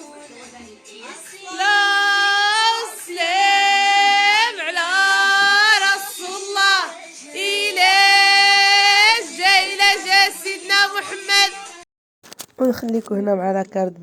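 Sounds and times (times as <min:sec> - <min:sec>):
woman singing long held notes: 0:00.0 - 0:11.8.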